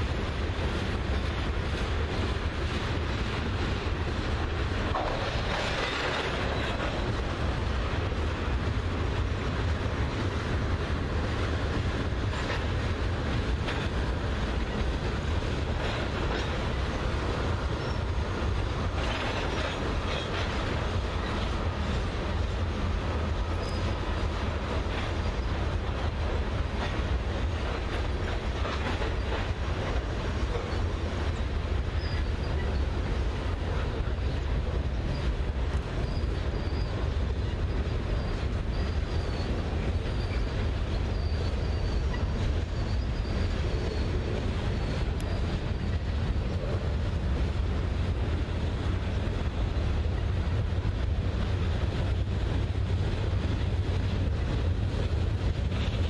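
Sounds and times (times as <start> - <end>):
steel wheels rumbling on rails: 0.0 - 56.0
train cars clicking and rattling: 0.0 - 56.0.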